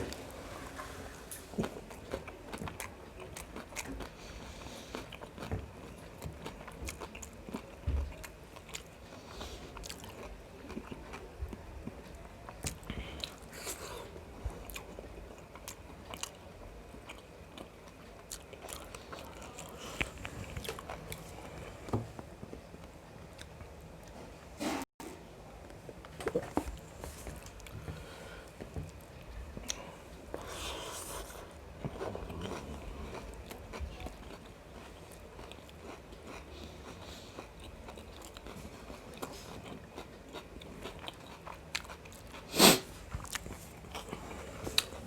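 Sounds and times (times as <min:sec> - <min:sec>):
person chewing food: 0:00.0 - 0:22.7, 0:26.2 - 0:45.0.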